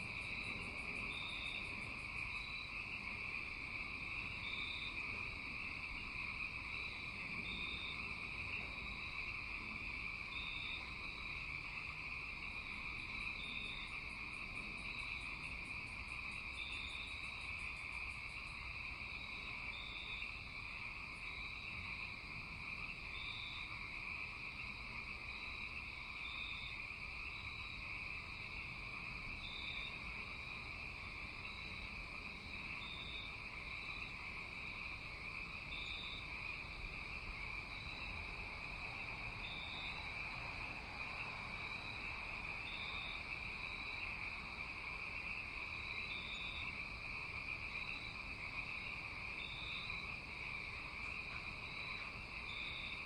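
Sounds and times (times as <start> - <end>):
frogs and insects trilling: 0.0 - 53.0.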